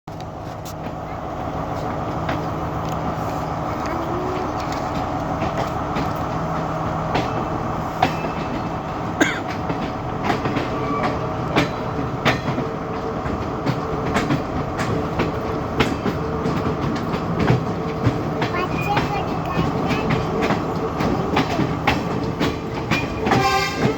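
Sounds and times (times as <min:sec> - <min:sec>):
train engine drone: 0:00.1 - 0:23.9
wheels clicking on track: 0:00.1 - 0:23.9.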